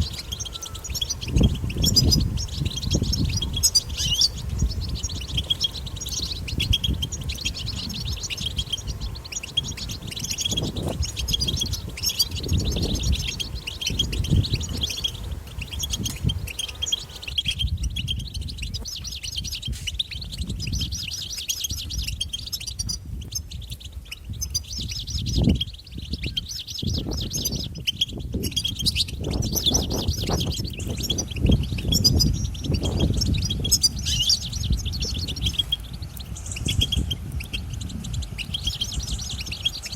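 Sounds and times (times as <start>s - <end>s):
finches twittering song: 0.0s - 39.9s.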